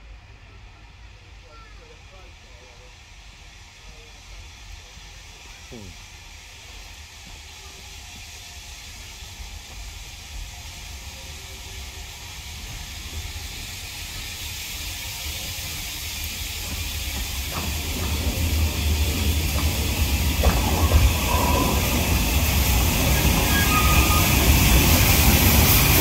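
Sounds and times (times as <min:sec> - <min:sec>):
steam hissing: 0:00.0 - 0:26.0
train wheels rumbling on rail: 0:00.0 - 0:26.0.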